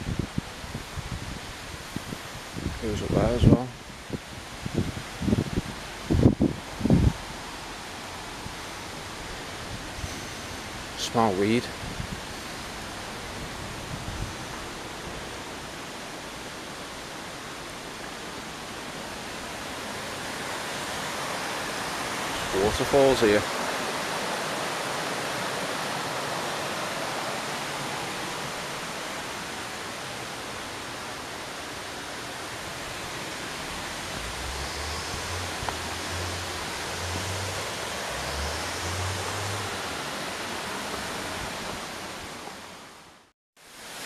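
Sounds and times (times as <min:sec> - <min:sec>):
small waterfall rushing: 0:00.0 - 0:44.0.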